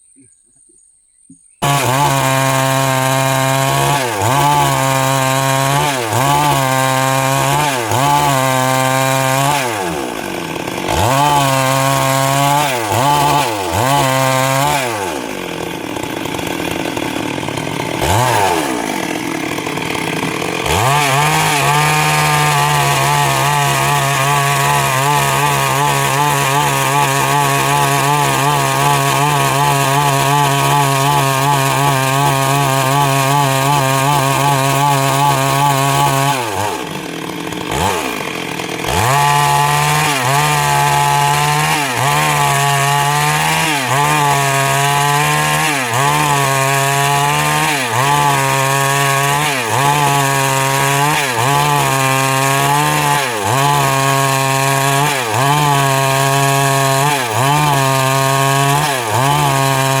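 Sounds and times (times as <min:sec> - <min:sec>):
chainsaw cutting wood: 0:01.3 - 1:00.0.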